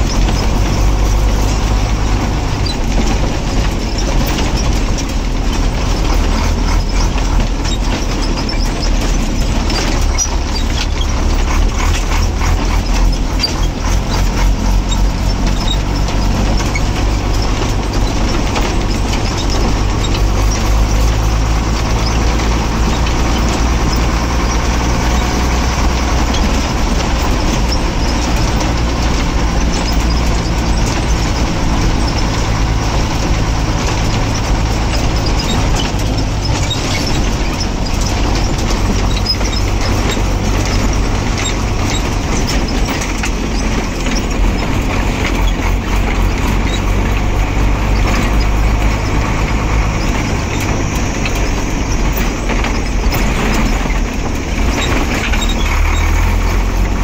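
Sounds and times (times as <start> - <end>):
road and cab noise: 0.0 - 57.0
truck diesel engine running: 0.0 - 57.0.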